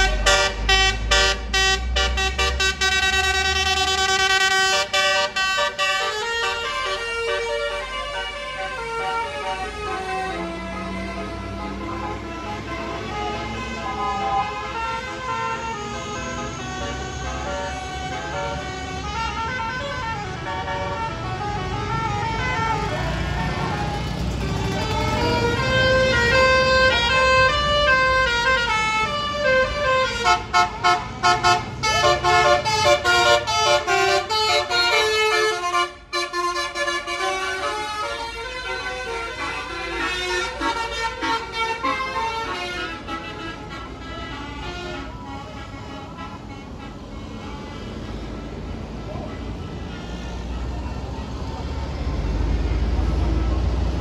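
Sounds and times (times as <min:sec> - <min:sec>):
multi-note musical bus horn: 0:00.0 - 0:51.7.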